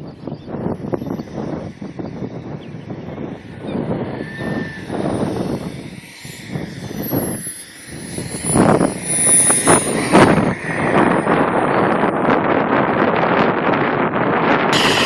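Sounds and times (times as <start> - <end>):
model jet engine whine: 0.0 - 15.0
wind buffeting microphone: 0.0 - 15.0.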